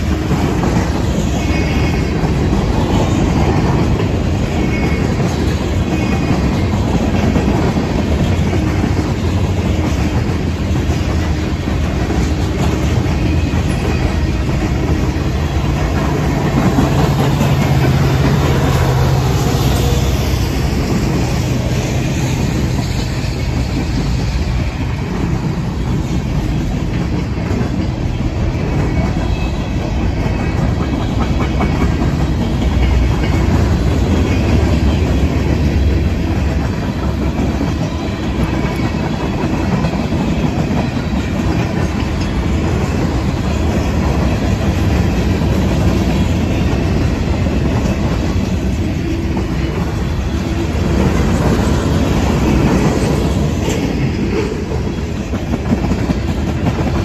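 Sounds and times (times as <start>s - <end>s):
freight train wheels rumbling: 0.0s - 57.0s
wheels clacking over rail joints: 0.0s - 57.0s.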